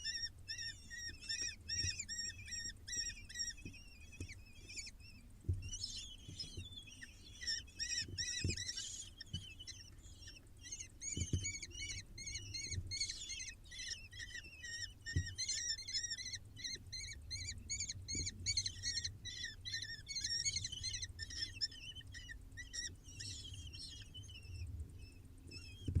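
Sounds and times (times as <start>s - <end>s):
chicks chirping rapidly: 0.0s - 26.0s.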